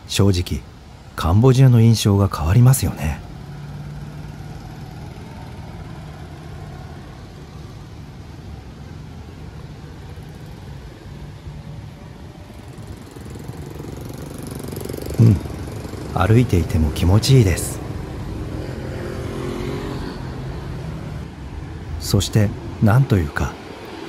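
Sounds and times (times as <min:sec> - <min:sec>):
city background noise: 0:00.0 - 0:24.0
passing vehicle engines humming: 0:00.0 - 0:24.0.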